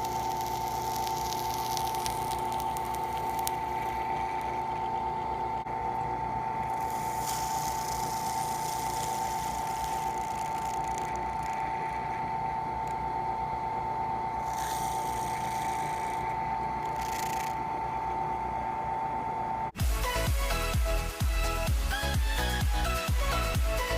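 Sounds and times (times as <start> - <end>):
electric drill motor whine: 0.0 - 19.7.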